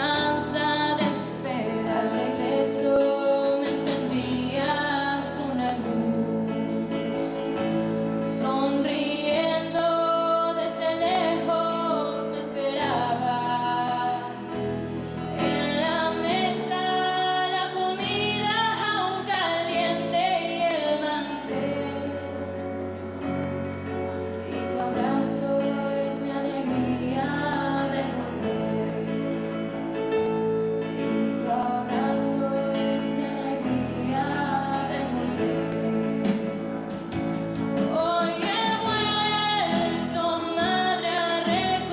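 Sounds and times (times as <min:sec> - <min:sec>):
woman singing devotional song: 0:00.0 - 0:22.8, 0:24.3 - 0:30.3, 0:30.9 - 0:41.9
instrumental accompaniment: 0:00.0 - 0:41.9.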